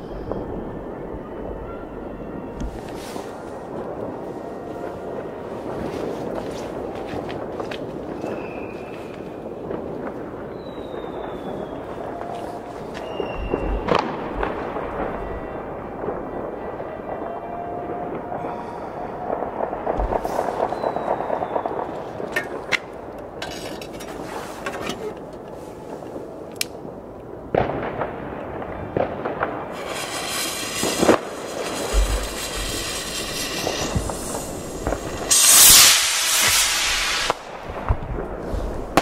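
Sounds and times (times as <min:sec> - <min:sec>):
distant explosions: 0:00.0 - 0:23.4, 0:27.4 - 0:39.0
firecracker and rocket bangs: 0:00.0 - 0:26.1, 0:27.5 - 0:39.0
hissing crackle of fireworks: 0:00.0 - 0:39.0.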